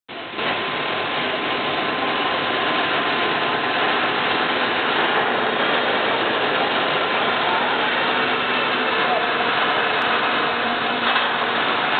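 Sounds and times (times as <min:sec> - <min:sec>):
faint steady whine: 0:00.1 - 0:11.9
workshop machinery running: 0:00.1 - 0:11.9.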